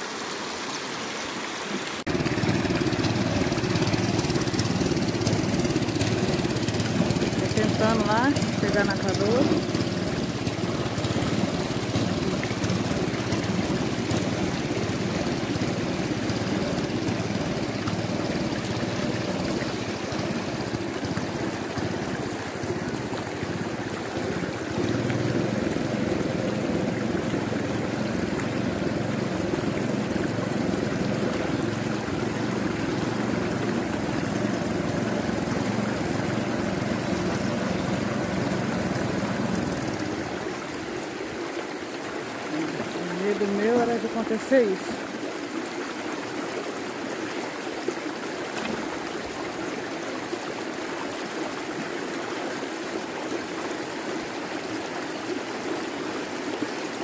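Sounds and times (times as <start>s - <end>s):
small boat engine drone: 0.0s - 57.0s
water rushing over rapids: 0.0s - 57.0s.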